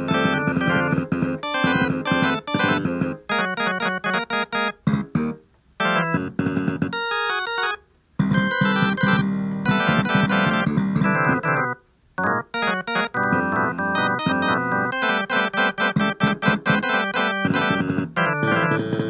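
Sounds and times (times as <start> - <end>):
busy organ-like keyboard music: 0.0 - 19.0.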